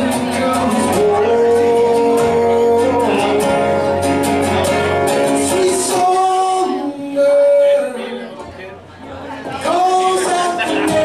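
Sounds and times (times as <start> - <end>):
man singing: 0.0 - 8.4, 9.4 - 11.0
strummed acoustic guitar: 0.0 - 11.0.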